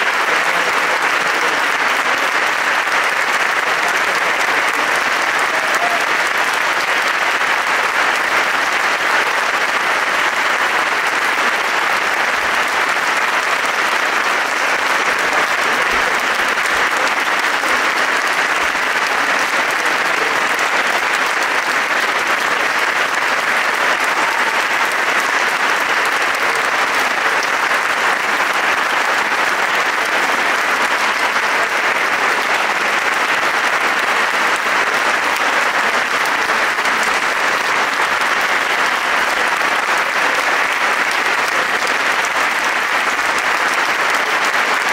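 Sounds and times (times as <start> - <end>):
audience applauding: 0.0 - 44.9.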